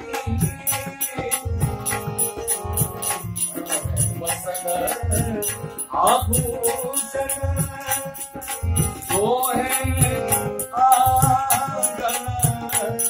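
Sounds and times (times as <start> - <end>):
drum beat: 0.0 - 13.0
harmonium chords: 0.0 - 13.0
jingling percussion: 0.0 - 13.0
man singing: 0.0 - 13.0.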